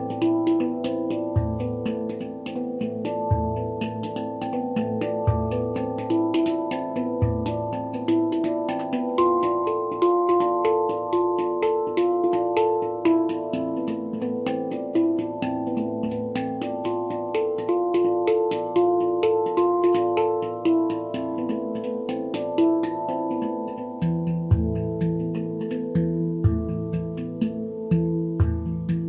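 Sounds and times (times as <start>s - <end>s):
deep low handpan note: 0.0s - 29.0s
handpan notes played with fingers: 0.0s - 29.0s.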